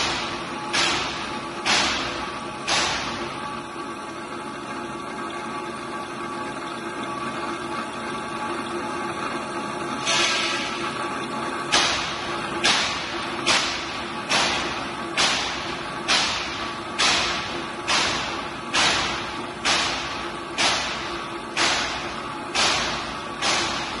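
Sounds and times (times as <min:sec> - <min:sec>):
coolant running: 0:00.0 - 0:24.0.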